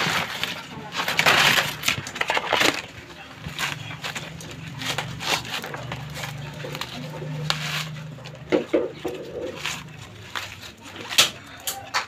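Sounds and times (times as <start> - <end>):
coconut husk scraping: 0.0 - 12.0.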